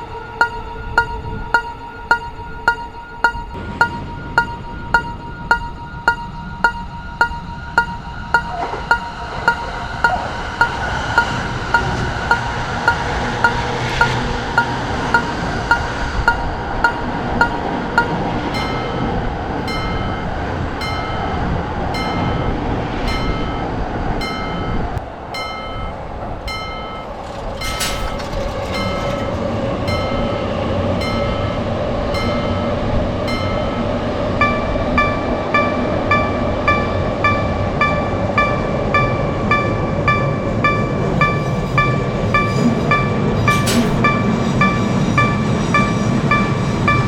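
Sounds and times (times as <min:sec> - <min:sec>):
level-crossing bell ringing: 0:00.0 - 0:47.0
train rumbling: 0:00.0 - 0:47.0.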